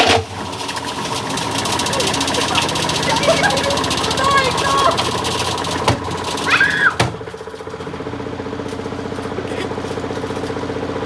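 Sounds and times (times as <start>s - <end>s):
washing machine motor hum pulsing: 0.0s - 11.0s.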